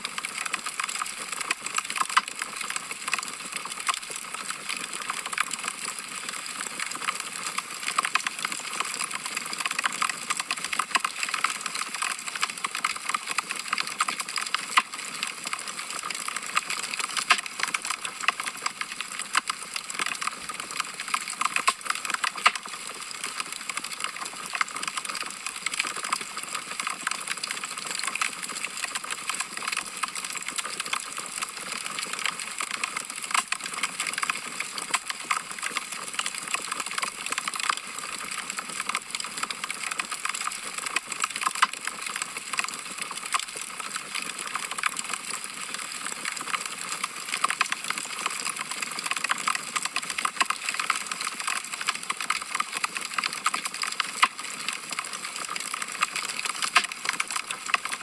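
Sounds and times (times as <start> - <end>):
fire crackling and popping: 8.0 - 38.3, 38.9 - 58.0.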